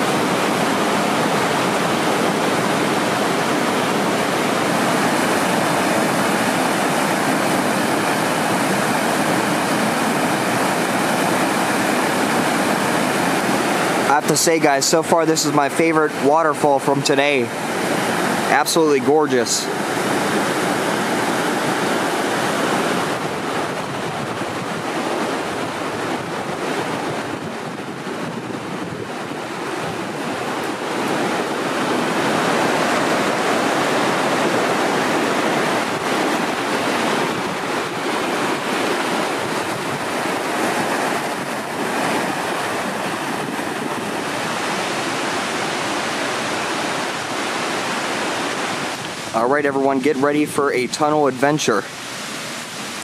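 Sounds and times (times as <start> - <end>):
creek rushing over rocks: 0.0 - 53.0.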